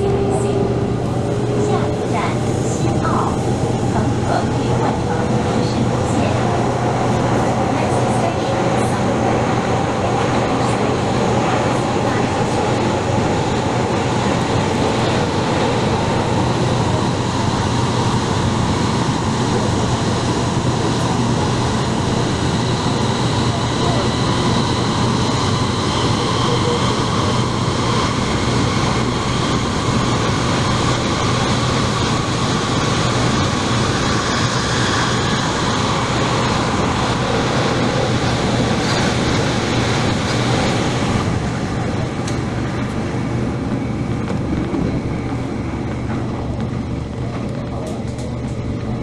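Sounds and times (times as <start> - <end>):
high traction motor whine: 0.0 - 49.0
train wheels rumbling on rail: 0.0 - 49.0.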